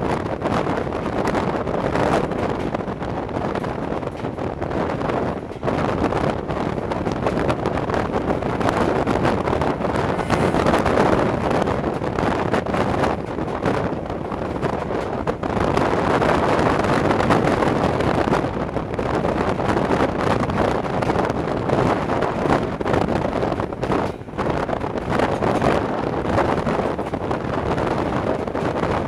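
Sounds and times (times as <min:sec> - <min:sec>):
train rumbling on track: 0:00.0 - 0:29.0
wind buffeting microphone: 0:00.0 - 0:29.0.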